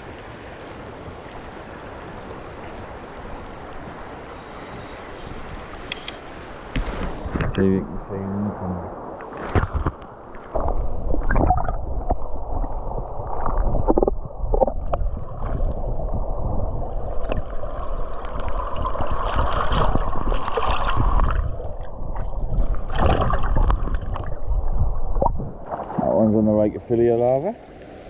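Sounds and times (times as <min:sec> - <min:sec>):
river water gurgling and splashing: 0:00.0 - 0:28.0.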